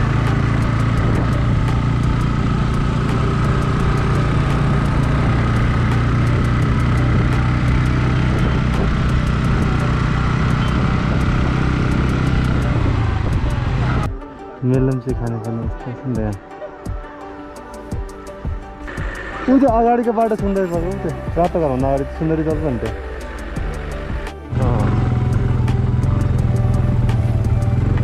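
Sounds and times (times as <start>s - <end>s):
motorcycle engine cruising: 0.0s - 14.2s, 17.8s - 28.0s.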